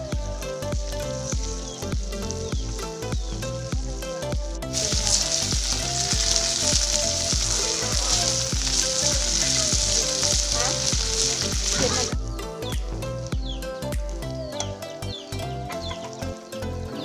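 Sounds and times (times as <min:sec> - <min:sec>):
grubs sizzling in a pan: 0:00.0 - 0:14.2
background music with steady beat: 0:00.0 - 0:17.0.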